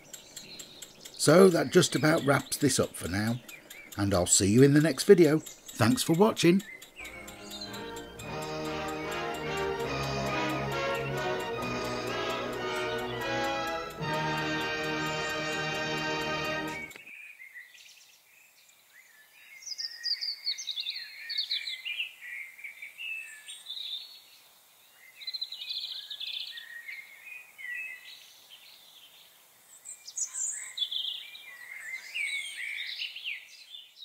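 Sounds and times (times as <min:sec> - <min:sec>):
blackbirds singing: 0:00.0 - 0:18.2, 0:18.9 - 0:24.2, 0:25.0 - 0:29.2, 0:29.8 - 0:34.0.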